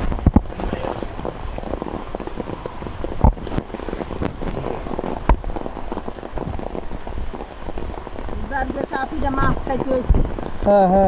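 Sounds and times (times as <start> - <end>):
rain on an umbrella: 0.0 - 11.0.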